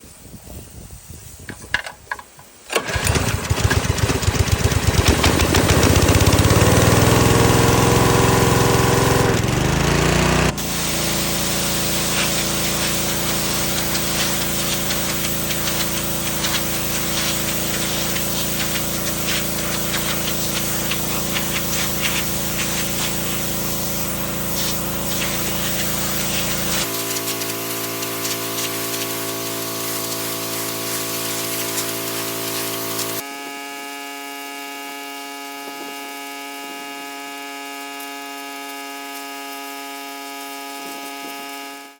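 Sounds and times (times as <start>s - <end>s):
pressure washer engine running: 2.8s - 33.2s, 35.5s - 41.9s.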